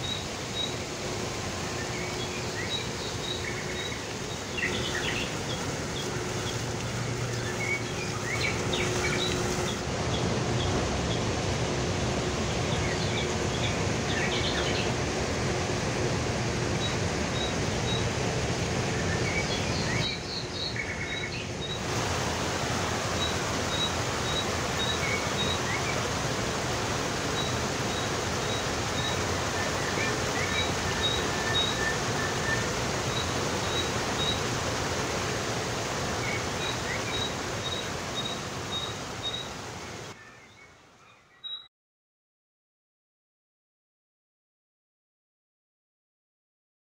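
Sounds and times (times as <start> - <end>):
fountain water splashing into basin: 0.0 - 40.2.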